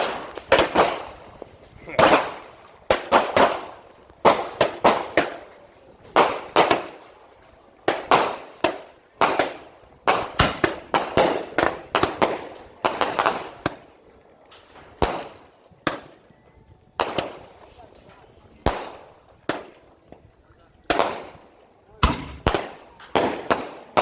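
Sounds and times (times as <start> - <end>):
fireworks bangs with echo: 0.0 - 14.0, 14.7 - 16.3, 17.0 - 20.2, 20.8 - 24.0.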